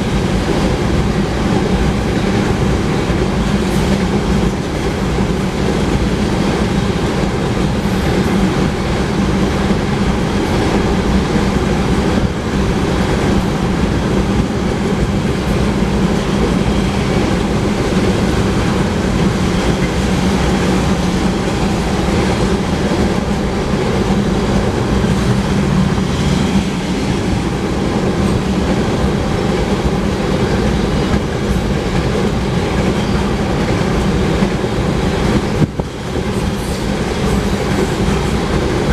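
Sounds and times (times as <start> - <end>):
clickety-clack of rail joints: 0.0 - 38.9
train wheels rumbling on rails: 0.0 - 38.9.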